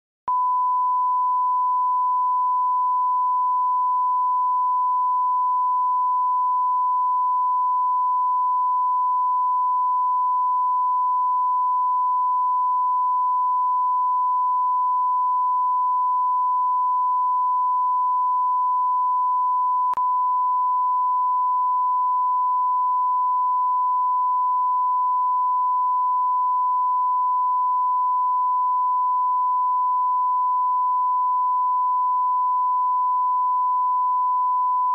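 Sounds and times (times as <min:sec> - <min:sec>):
sine wave test tone: 0:00.3 - 0:34.9.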